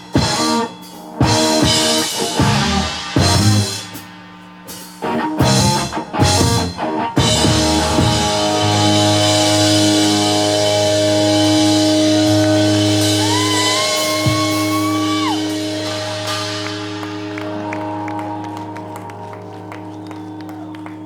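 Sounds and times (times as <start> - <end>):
rock band final chord ringing: 0.0 - 4.0, 5.0 - 21.0.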